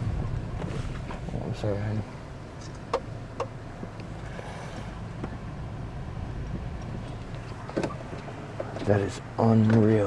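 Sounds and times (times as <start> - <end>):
car engine rumble inside cabin: 0.0 - 10.0.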